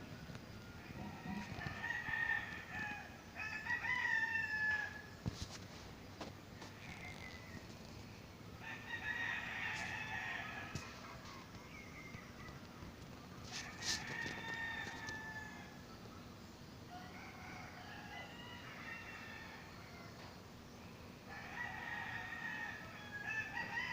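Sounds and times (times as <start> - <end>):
roosters crowing: 0.0 - 23.9.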